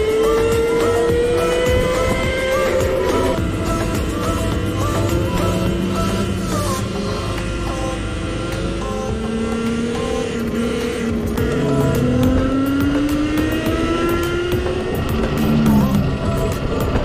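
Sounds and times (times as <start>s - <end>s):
electric motor whine rising: 0.0s - 17.0s
wind and road noise: 0.0s - 17.0s.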